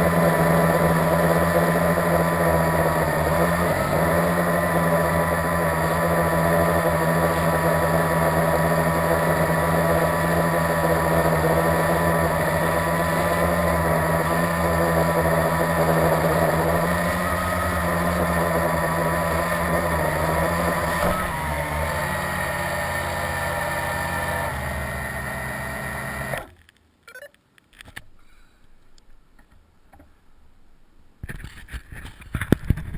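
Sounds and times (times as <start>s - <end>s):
quadcopter propellers whining: 0.0s - 26.5s.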